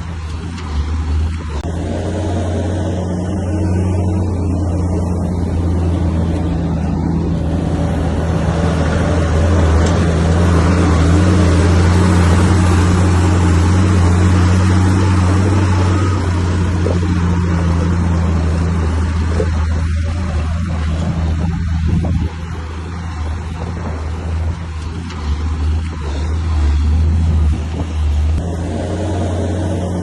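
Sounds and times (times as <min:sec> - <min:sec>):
broad noise: 0:00.0 - 0:30.0
bulldozer diesel engine droning: 0:00.0 - 0:30.0.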